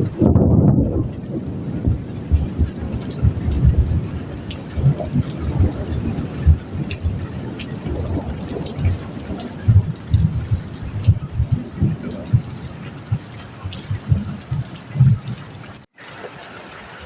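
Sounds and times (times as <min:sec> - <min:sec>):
heavy rain on a metal roof: 0:00.0 - 0:17.0
sharp drip ticks: 0:01.0 - 0:15.9.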